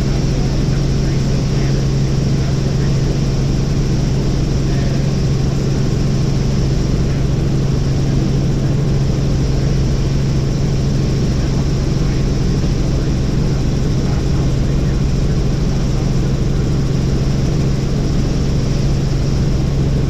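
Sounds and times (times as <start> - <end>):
helicopter engine and rotors: 0.0 - 20.0.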